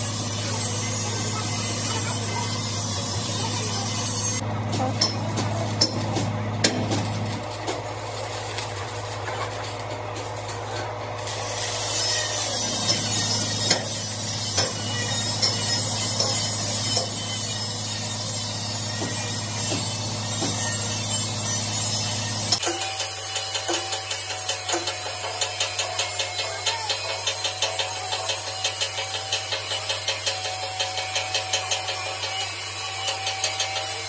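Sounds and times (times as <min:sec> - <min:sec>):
welding arc crackling and popping: 0:04.3 - 0:34.0.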